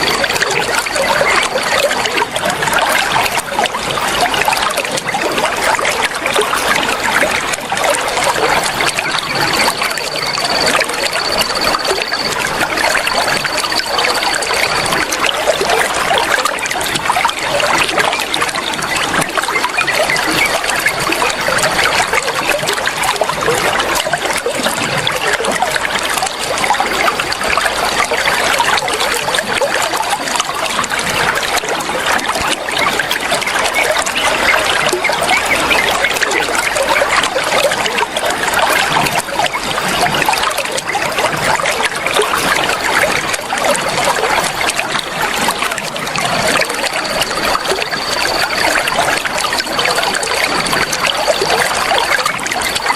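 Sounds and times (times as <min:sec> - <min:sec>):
running water flowing: 0:00.0 - 0:52.9.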